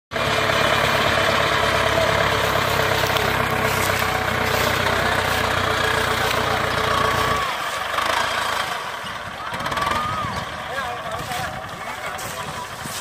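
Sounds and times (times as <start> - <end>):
diesel tractor engine running: 0.1 - 13.0.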